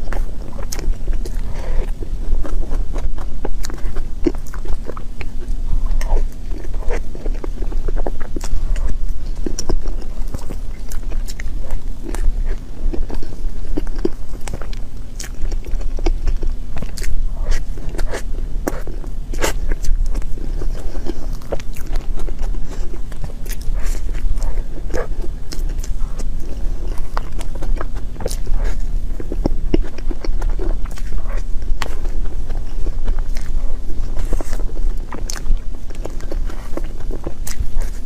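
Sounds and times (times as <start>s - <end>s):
biting and chewing: 0.0s - 38.0s.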